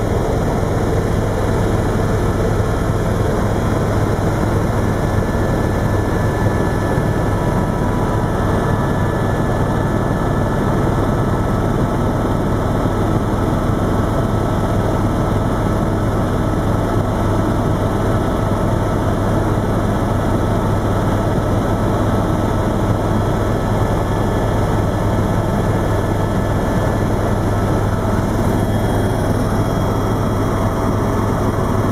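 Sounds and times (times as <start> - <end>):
helicopter engine and rotor drone: 0.0 - 31.9.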